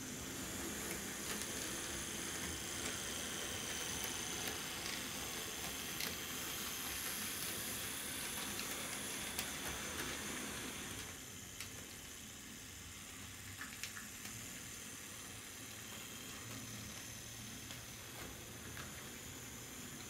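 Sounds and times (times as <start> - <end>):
model train rolling on track: 0.0 - 20.0.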